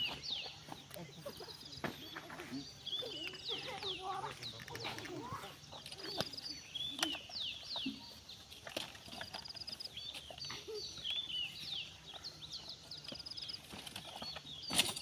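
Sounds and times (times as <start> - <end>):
small birds chirping and trilling: 0.0 - 15.0.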